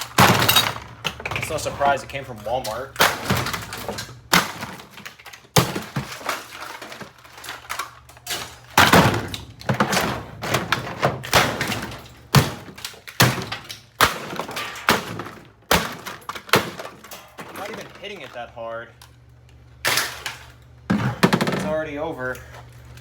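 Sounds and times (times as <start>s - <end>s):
broken pieces clattering: 0.0s - 18.6s, 19.8s - 21.9s.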